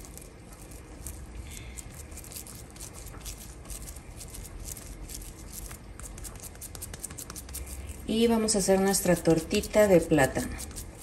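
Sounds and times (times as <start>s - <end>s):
hands squishing mashed food: 0.0s - 11.0s.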